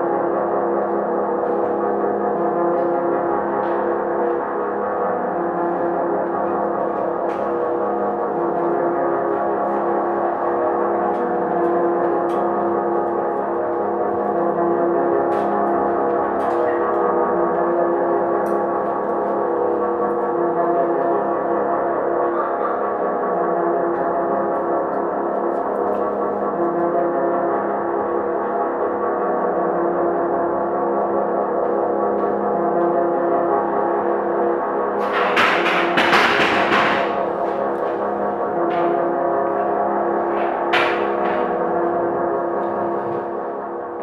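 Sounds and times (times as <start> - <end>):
gong-like ringing drone: 0.0 - 44.0.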